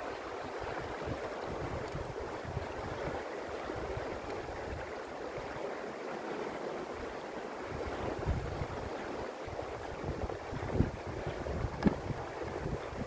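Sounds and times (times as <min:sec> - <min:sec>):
wind gusting on microphone: 0:00.0 - 0:05.5, 0:07.6 - 0:13.0
river rushing over stones: 0:00.0 - 0:13.0.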